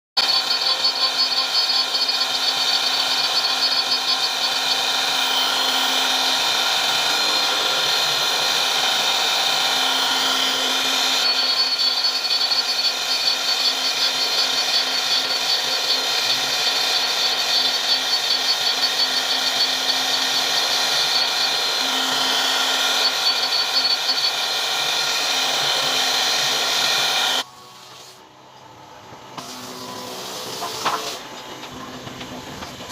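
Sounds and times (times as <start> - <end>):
router spindle whine cutting wood: 0.2 - 32.9.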